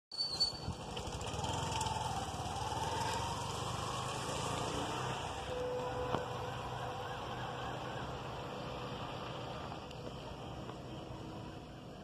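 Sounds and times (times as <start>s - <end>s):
engine running with low rumble: 0.5s - 12.0s.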